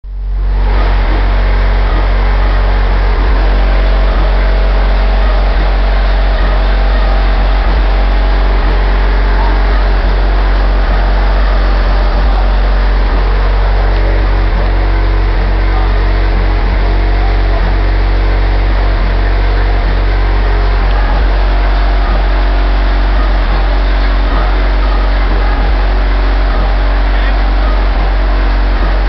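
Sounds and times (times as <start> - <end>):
distorted subwoofer bass drone: 0.0 - 29.0.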